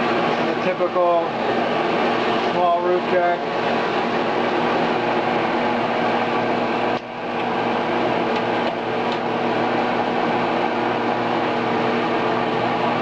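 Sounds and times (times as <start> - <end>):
dryer exhaust air rushing: 0.0 - 13.0
steady dryer hum: 0.0 - 13.0.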